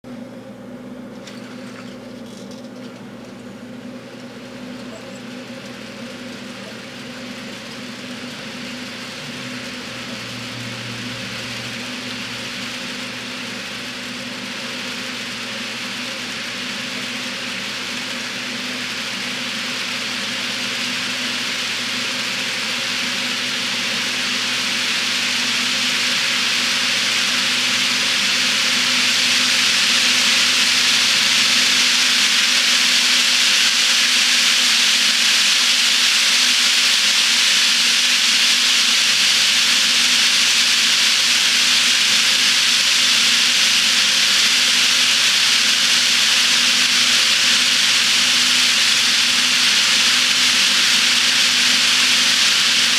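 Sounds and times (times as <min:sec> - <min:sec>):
faint motor hum: 0:00.0 - 0:52.9
model train wheels clattering on track: 0:01.2 - 0:52.9.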